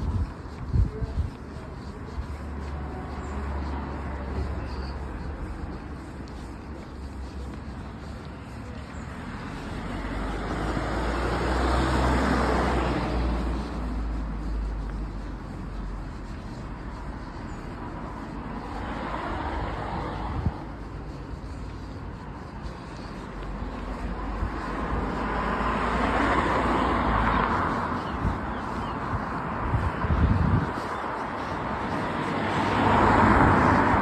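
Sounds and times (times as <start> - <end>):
car passing: 0.0 - 34.0.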